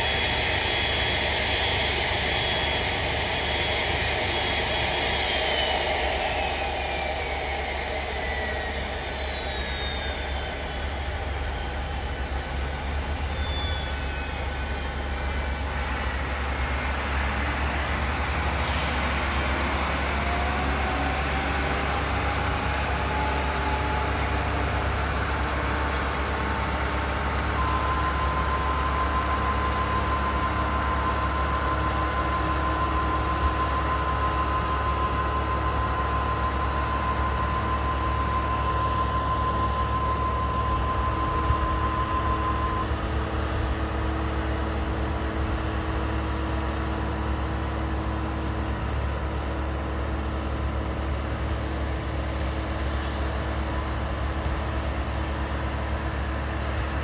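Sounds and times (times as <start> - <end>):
airliner and tug droning: 0.0 - 57.0
steady high whine: 0.0 - 57.0.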